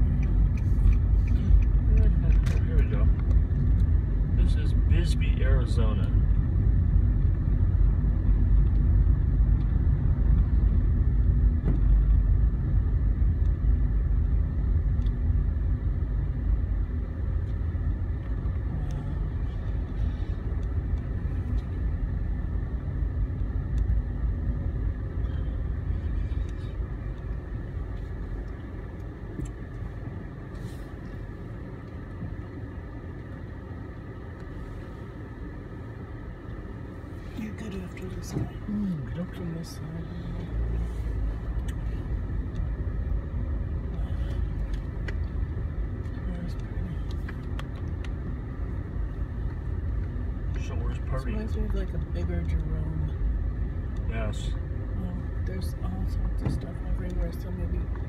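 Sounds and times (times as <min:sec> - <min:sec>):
car cabin road and engine rumble: 0:00.0 - 0:58.0.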